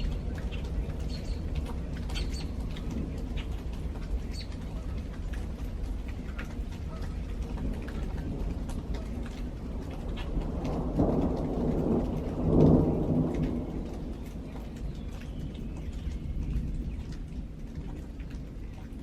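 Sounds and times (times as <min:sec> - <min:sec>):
thunder rumbling: 0:00.0 - 0:17.6
raindrop ticks: 0:00.0 - 0:19.0
steady rain: 0:00.0 - 0:19.0.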